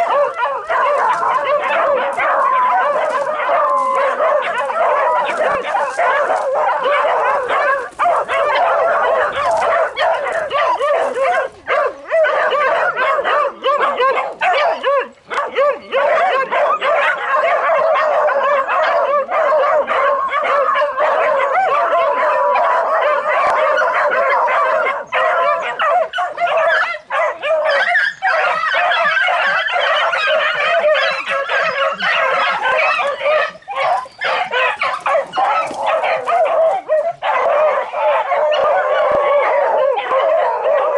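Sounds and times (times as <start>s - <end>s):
dogs baying: 0.0s - 40.9s.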